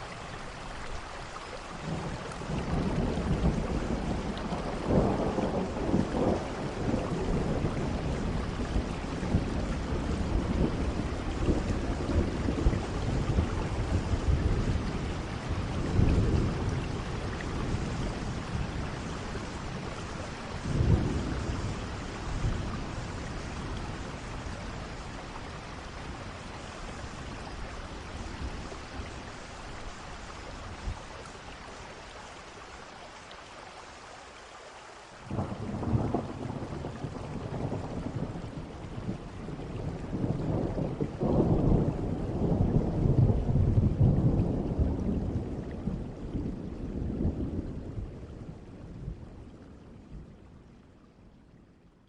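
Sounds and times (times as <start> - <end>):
steady rain: 0.0 - 52.0
low rolling thunder: 1.8 - 31.5, 35.3 - 50.4.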